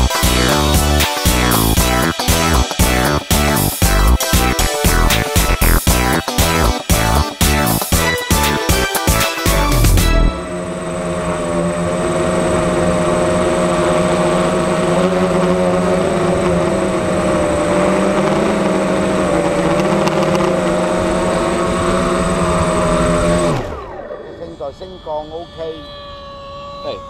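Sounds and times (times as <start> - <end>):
drone motors and propellers whirring: 0.0 - 27.0.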